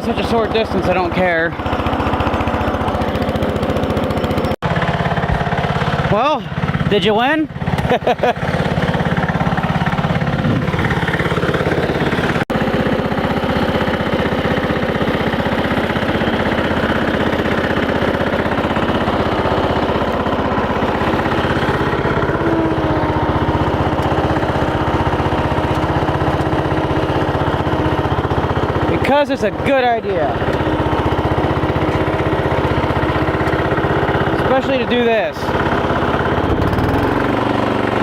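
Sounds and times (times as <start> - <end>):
lawn tractor engine running: 0.0 - 38.0.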